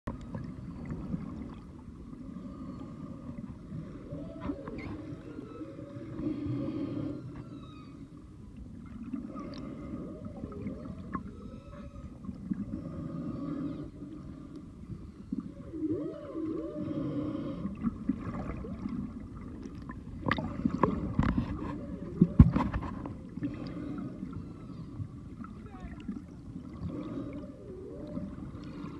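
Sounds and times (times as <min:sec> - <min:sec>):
humpback whale song: 0:00.1 - 0:28.9.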